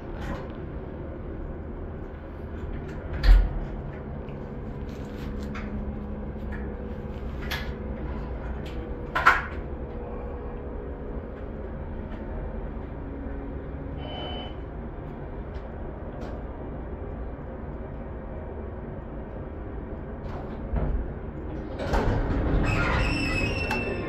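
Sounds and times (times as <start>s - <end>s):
faint motor hum: 0.0s - 22.5s
train rumble: 0.0s - 24.0s.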